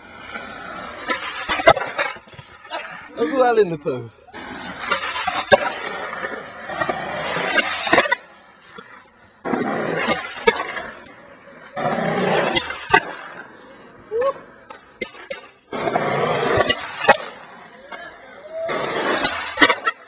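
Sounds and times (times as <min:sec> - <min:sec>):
skateboard trucks grinding on ledges: 0:00.0 - 0:20.0
skateboard wheels rolling on concrete: 0:00.0 - 0:20.0.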